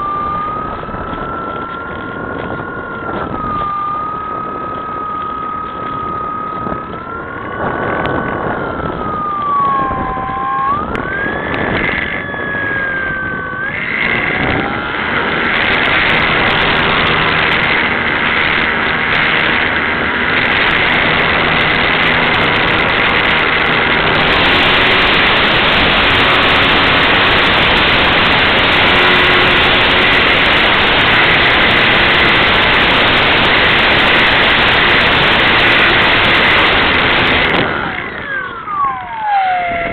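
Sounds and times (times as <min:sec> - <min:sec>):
model plane electric motor whining: 0:00.0 - 0:39.9
wind noise on microphone: 0:00.0 - 0:39.9.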